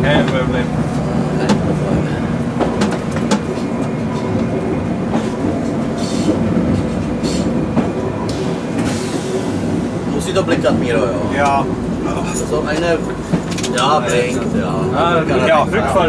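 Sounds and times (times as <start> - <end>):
wheels clicking over rail joints: 0.0 - 9.3, 10.1 - 14.8
diesel engine droning: 0.0 - 16.0.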